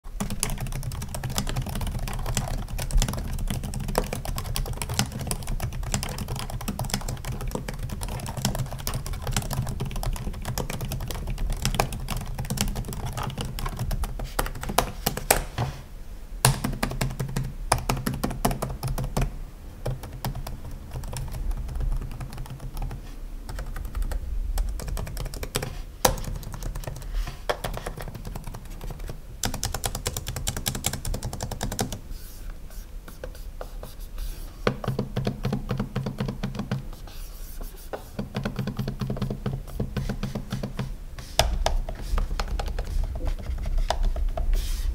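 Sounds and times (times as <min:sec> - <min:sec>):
steady low hum: 0:00.0 - 0:44.9
keyboard typing: 0:00.1 - 0:15.8, 0:16.4 - 0:32.0, 0:34.6 - 0:37.1, 0:38.0 - 0:44.4.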